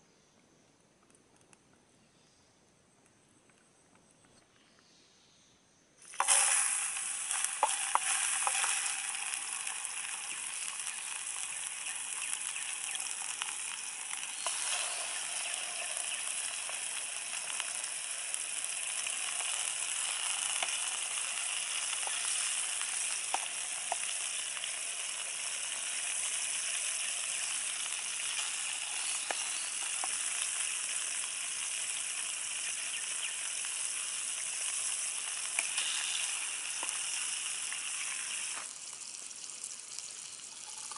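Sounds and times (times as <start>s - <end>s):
food sizzling in hot oil: 6.0s - 40.9s
oil popping and crackling: 6.0s - 40.9s.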